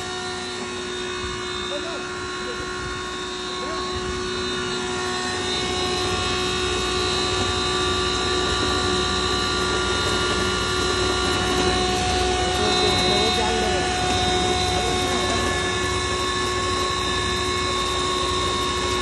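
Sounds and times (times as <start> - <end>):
grinding mill machine hum: 0.0 - 19.0.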